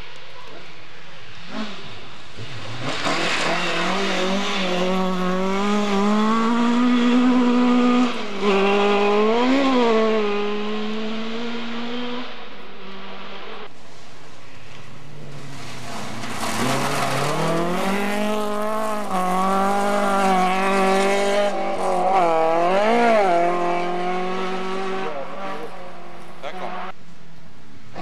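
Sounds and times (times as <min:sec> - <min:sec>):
rally car engine passing at high revs: 0:00.5 - 0:28.0.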